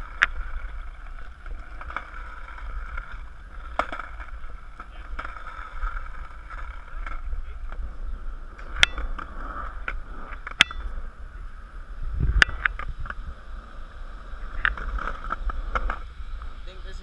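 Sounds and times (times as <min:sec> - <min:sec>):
skateboard wheels clacking on joints: 0:00.0 - 0:17.0
skateboard wheels rumbling: 0:00.0 - 0:17.0.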